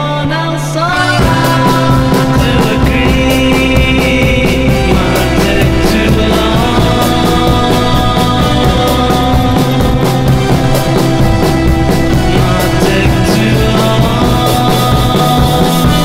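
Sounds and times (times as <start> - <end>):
background music with drum beat: 0.9 - 16.0.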